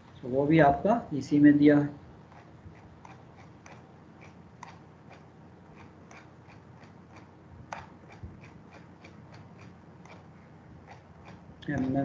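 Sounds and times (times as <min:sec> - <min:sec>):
mouse scroll wheel clicking: 0:02.3 - 0:12.0.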